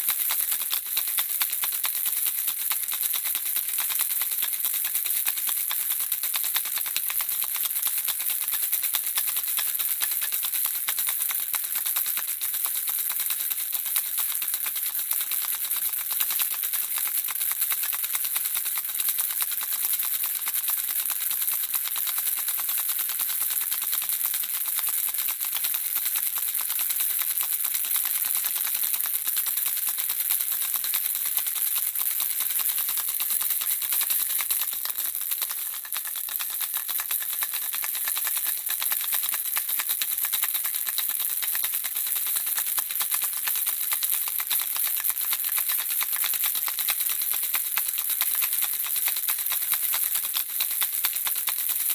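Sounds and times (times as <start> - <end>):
baby rattle shaken: 0.0 - 51.9.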